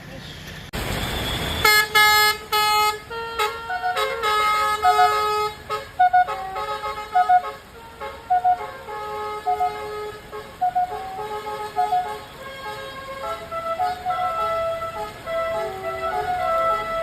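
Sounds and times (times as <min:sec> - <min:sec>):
multi-trumpet bus horn melody: 0:01.5 - 0:17.0.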